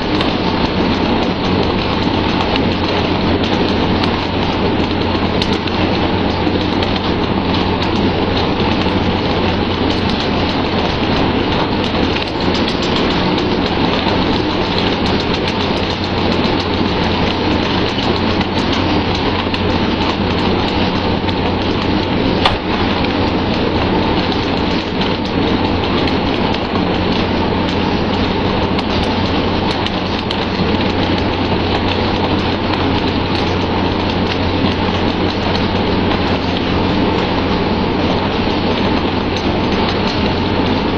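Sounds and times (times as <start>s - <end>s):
low ship hum: 0.0s - 40.9s.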